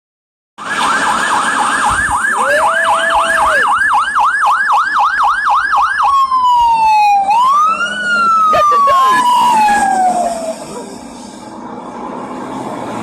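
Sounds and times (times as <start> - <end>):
emergency vehicle siren: 0.6 - 12.8.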